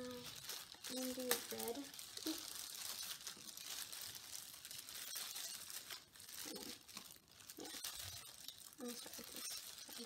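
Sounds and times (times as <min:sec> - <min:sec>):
plastic crinkling: 0:00.0 - 0:10.0.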